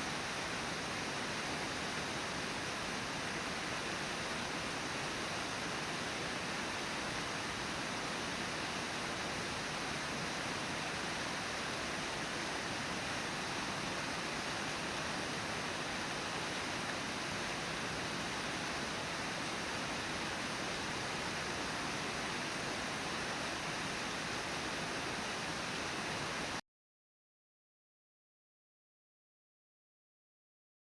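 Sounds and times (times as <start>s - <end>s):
river pouring over waterfall: 0.0s - 26.6s.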